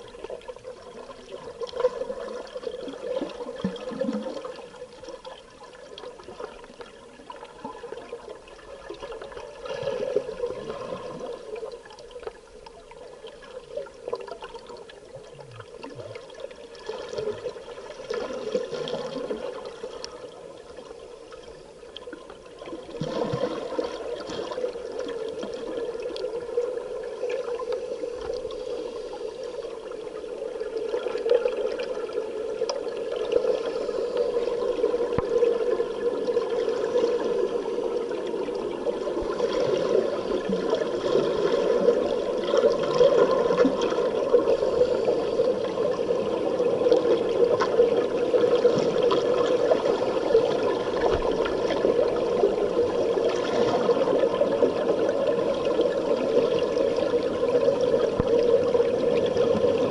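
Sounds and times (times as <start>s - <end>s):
underwater bubbles burbling: 0.0s - 59.9s.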